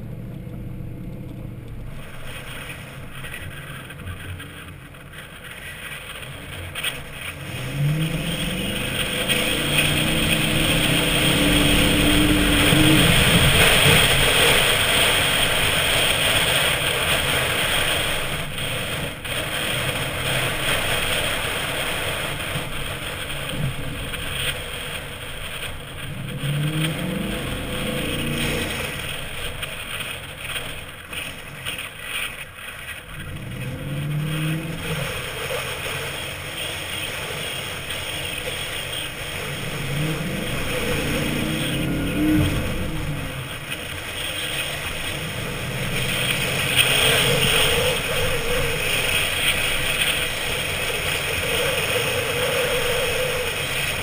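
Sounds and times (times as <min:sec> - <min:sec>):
steady rushing noise: 0:00.0 - 0:54.0
truck engine revving: 0:06.1 - 0:32.2, 0:33.0 - 0:54.0.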